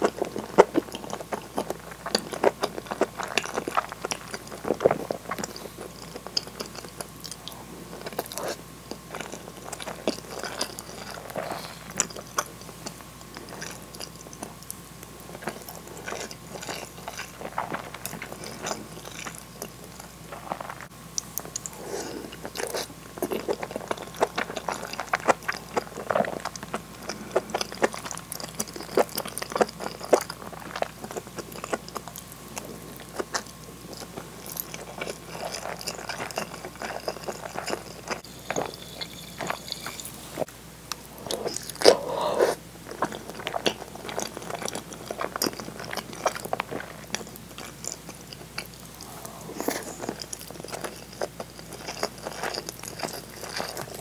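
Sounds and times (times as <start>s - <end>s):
chewing soft food: 0.0s - 54.0s.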